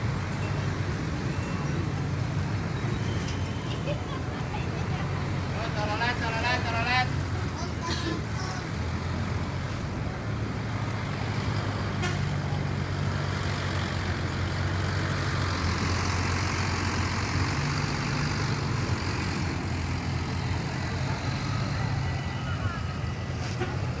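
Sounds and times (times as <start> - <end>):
road and tyre noise: 0.0 - 24.0
vehicle engine rumbling: 0.0 - 24.0.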